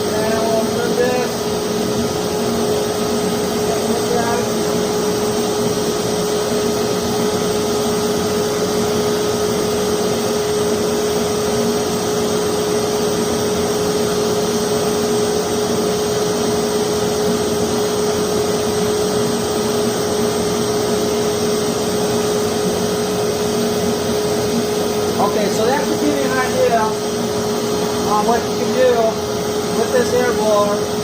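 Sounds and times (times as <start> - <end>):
electric air blower hum: 0.0 - 31.0
forge burner rushing: 0.0 - 31.0.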